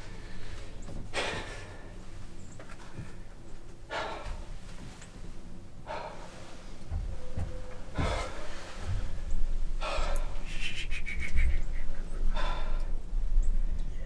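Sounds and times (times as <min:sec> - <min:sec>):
man breathing hard: 0:00.0 - 0:13.7
low rumble: 0:00.0 - 0:14.0.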